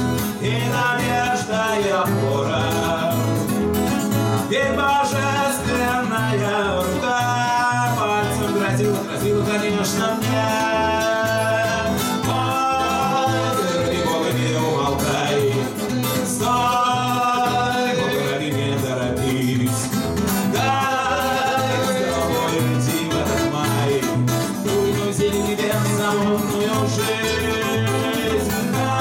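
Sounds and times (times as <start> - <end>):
men singing: 0.0 - 29.0
strummed acoustic guitars: 0.0 - 29.0.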